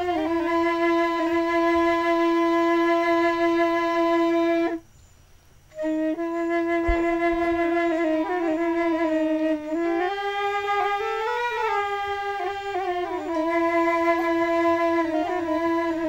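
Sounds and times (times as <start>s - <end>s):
flute playing long notes: 0.0s - 4.8s, 5.7s - 16.0s.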